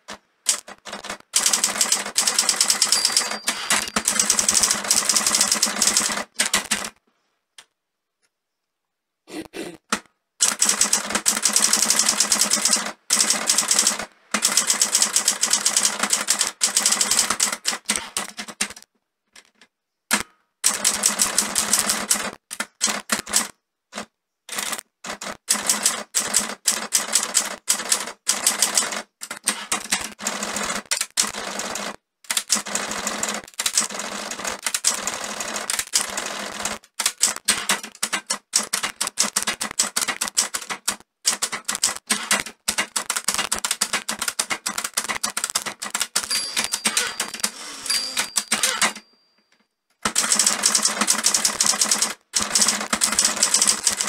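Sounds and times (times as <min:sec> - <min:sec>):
manual typewriter typing: 0:00.1 - 0:07.0, 0:10.4 - 0:49.1, 0:50.0 - 0:54.0.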